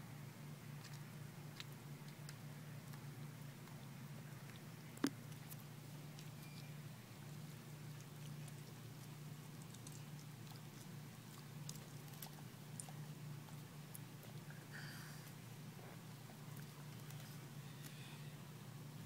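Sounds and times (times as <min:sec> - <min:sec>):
steady low hum: 0:00.0 - 0:19.0
tortoise chewing: 0:00.3 - 0:19.0.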